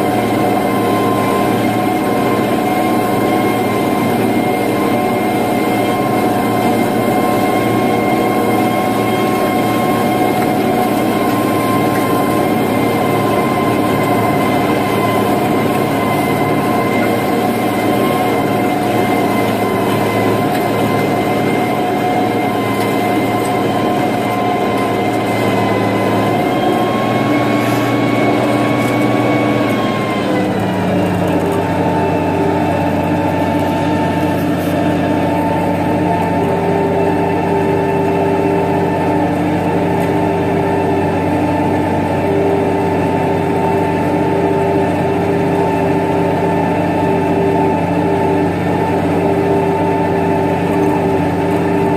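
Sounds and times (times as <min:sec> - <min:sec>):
steady whine: 0:00.0 - 0:51.9
tractor diesel engine running: 0:00.0 - 0:51.9.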